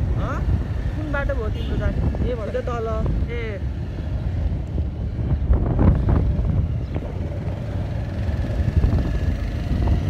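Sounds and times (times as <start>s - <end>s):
motorcycle engine rumble: 0.0s - 10.0s
road noise: 0.0s - 10.0s
wind buffeting microphone: 0.0s - 10.0s.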